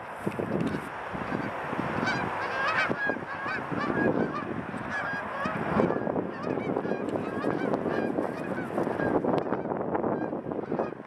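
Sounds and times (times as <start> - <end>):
geese honking in flight: 0.5 - 11.0.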